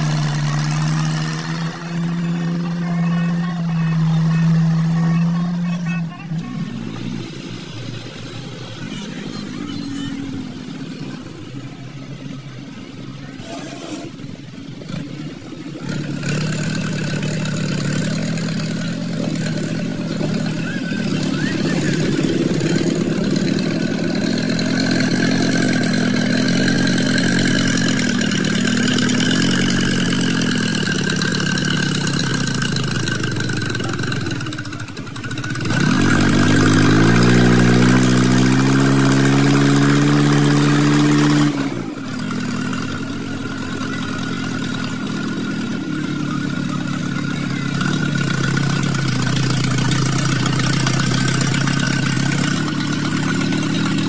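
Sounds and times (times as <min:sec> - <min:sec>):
tractor diesel engine labouring: 0:00.0 - 0:54.0.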